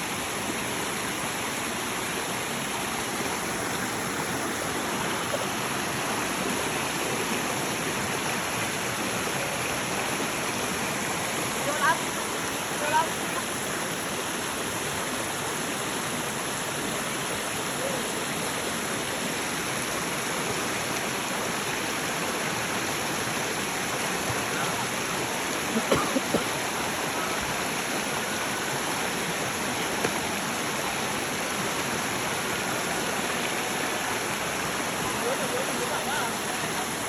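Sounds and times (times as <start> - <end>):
waterfall stream rushing: 0.0 - 37.0.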